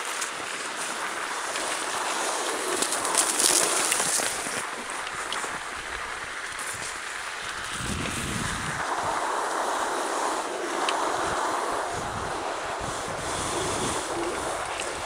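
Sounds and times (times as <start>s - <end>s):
bicycle tyres rolling over snow: 0.0s - 15.0s
wind buffeting microphone: 0.0s - 15.0s.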